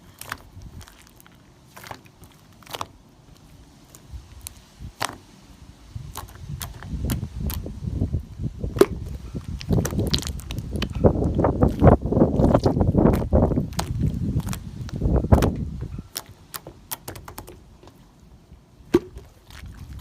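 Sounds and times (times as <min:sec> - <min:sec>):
slime squishing and crackling: 0:00.0 - 0:05.3, 0:06.0 - 0:07.8, 0:08.7 - 0:17.6, 0:19.1 - 0:20.0.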